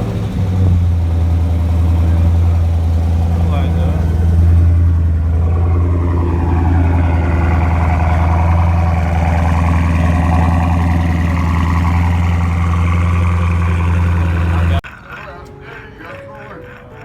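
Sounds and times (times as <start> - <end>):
car engine idling deep exhaust drone: 0.0 - 14.8.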